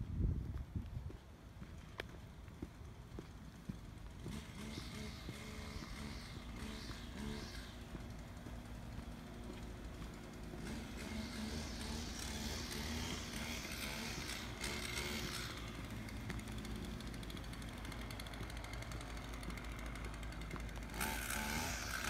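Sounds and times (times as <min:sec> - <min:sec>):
residential street ambience: 0:00.0 - 0:22.0
vehicle engine running: 0:01.4 - 0:22.0.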